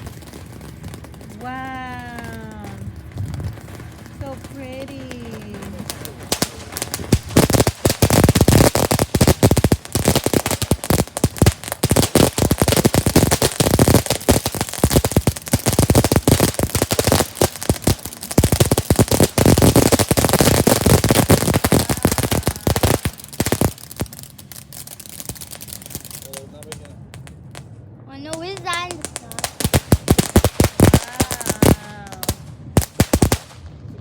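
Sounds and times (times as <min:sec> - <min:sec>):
fireworks crackling: 0:00.0 - 0:34.0.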